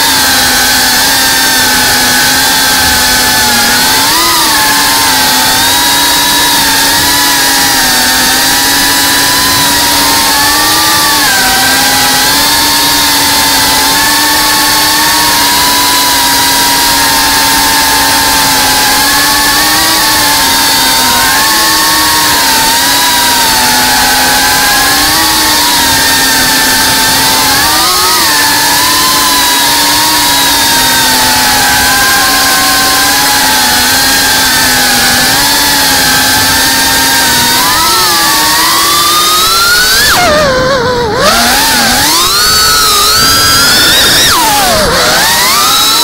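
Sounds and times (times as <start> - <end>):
drone motors whining: 0.0 - 46.0.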